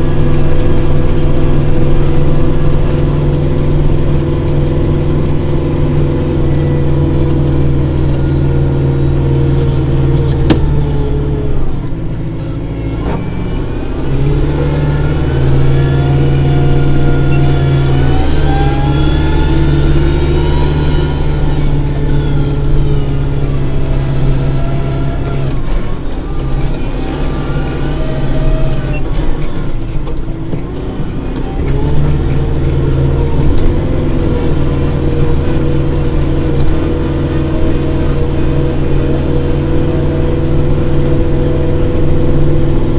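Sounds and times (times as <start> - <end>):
high mechanical whine: 0.0 - 42.9
tractor engine running: 0.0 - 42.9.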